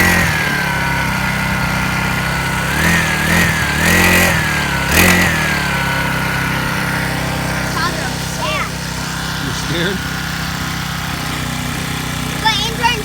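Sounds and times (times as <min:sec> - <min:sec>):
small engine idling and revving: 0:00.0 - 0:13.0.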